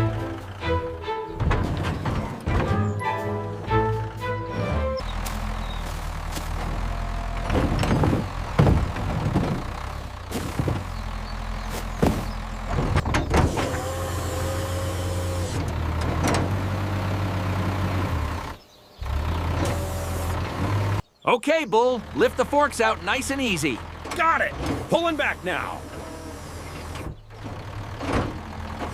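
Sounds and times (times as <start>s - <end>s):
engine running: 0.0s - 21.1s, 21.8s - 28.9s.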